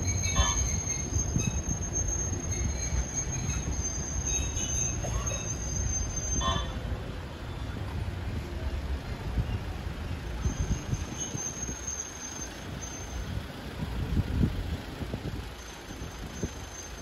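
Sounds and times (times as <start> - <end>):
tram wheels squealing on rails: 0.0 - 14.4, 15.0 - 17.0
street traffic rumbling: 0.0 - 17.0.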